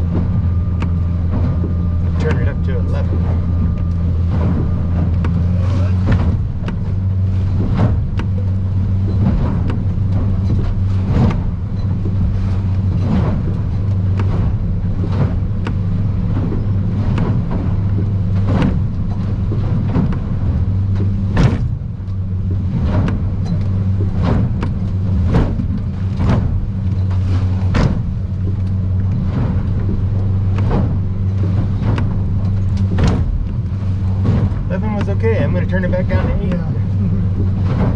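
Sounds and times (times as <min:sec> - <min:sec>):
boat hull hitting waves: 0:00.0 - 0:37.9
outboard engine running: 0:00.0 - 0:37.9.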